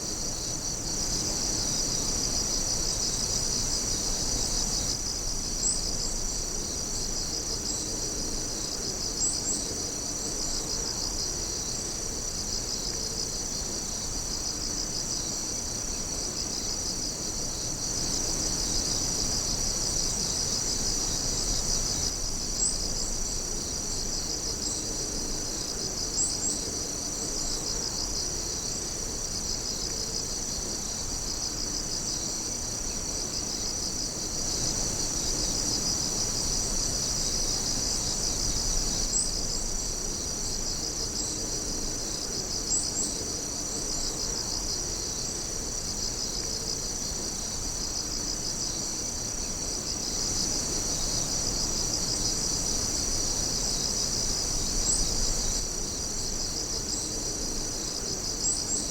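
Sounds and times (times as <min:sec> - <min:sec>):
crickets and insects trilling: 0:00.0 - 0:58.9.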